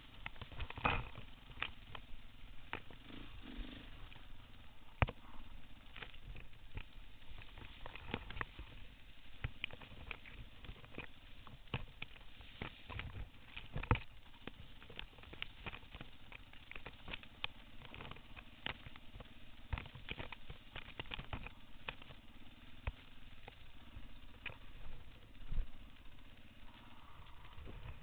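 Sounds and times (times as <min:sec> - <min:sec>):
grass slapping against bike: 0:00.0 - 0:26.8
muffled dirt bike rumble: 0:00.0 - 0:28.0.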